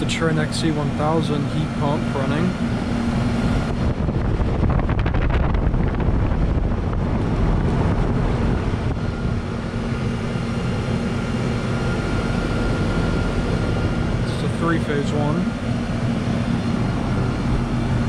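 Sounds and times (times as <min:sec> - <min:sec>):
compressor hum: 0:00.0 - 0:18.0
fan whooshing: 0:00.0 - 0:18.0.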